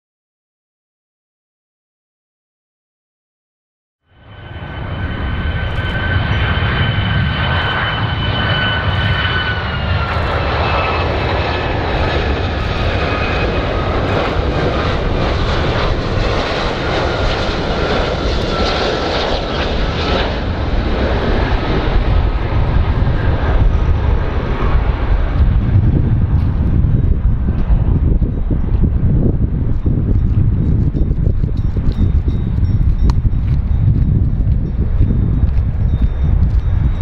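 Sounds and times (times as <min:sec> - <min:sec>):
jet engines rumbling and whining: 0:04.0 - 0:37.0.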